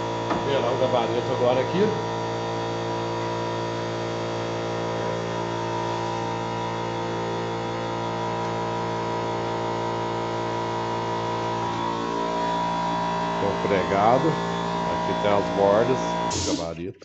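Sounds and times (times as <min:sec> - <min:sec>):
electric motor hum: 0:00.0 - 0:16.8.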